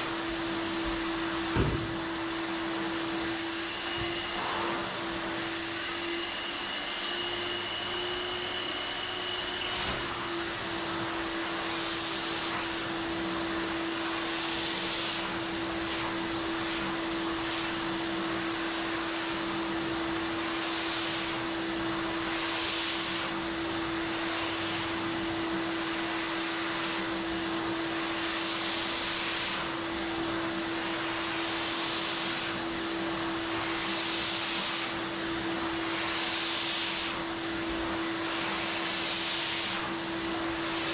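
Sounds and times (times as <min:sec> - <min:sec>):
vacuum cleaner running: 0:00.0 - 0:40.9
vacuum nozzle pushed along rug: 0:00.0 - 0:40.9.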